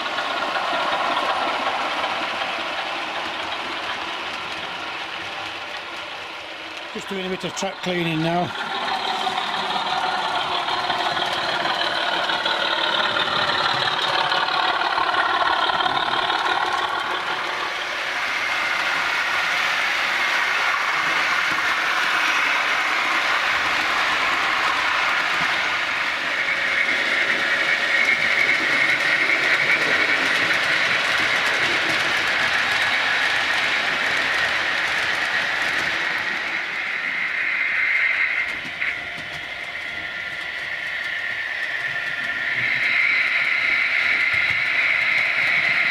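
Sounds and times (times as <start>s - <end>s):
model train motor whine: 0.0s - 45.9s
model train wheel noise: 0.0s - 45.9s.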